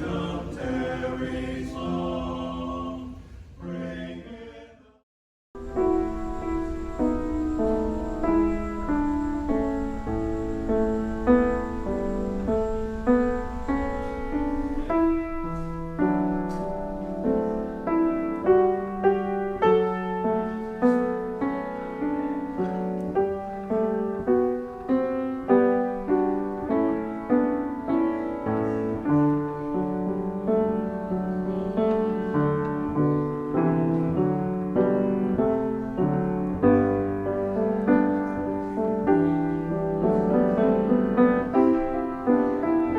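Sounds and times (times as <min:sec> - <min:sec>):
solo piano playing chords: 0:05.6 - 0:42.9.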